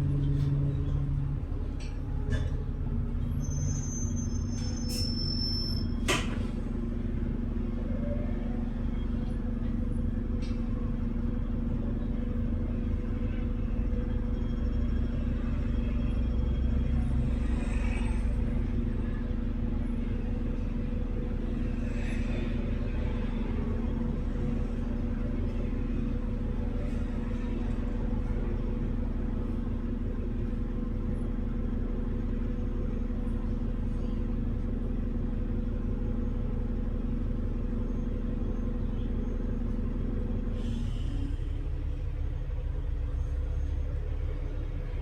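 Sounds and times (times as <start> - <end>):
bus engine rumble: 0.0 - 45.0
constant hum: 0.0 - 45.0.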